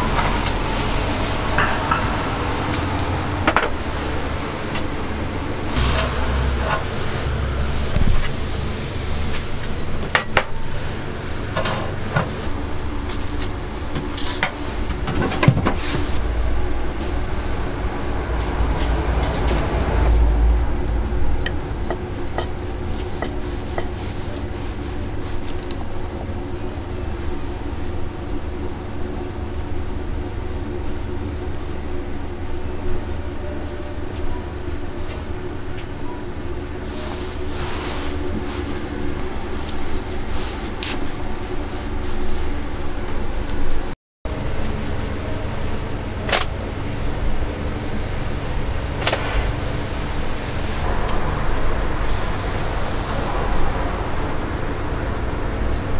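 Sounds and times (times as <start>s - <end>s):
constant hum: 0.0s - 55.9s
low traffic rumble: 0.0s - 55.9s.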